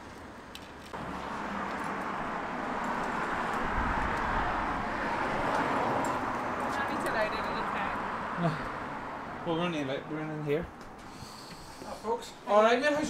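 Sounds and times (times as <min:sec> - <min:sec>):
low traffic rumble: 0:00.0 - 0:13.0
tyres hissing of passing cars: 0:01.0 - 0:12.8.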